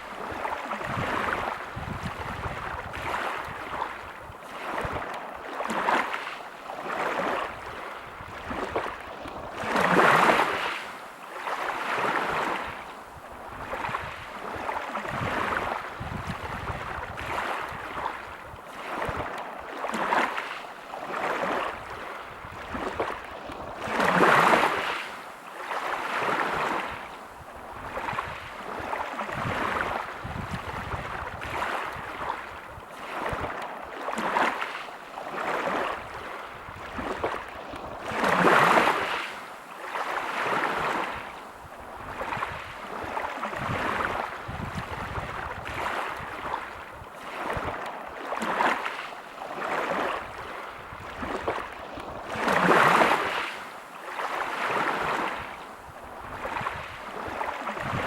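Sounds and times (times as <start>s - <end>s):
waves breaking on pebble beach: 0.0s - 12.8s, 13.6s - 27.0s, 27.8s - 41.3s, 42.1s - 58.0s.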